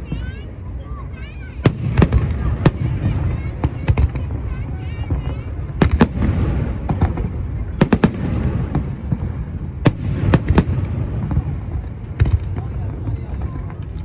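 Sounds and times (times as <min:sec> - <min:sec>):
fireworks booming: 0:00.0 - 0:14.0
low rumble of bursts: 0:00.0 - 0:14.0.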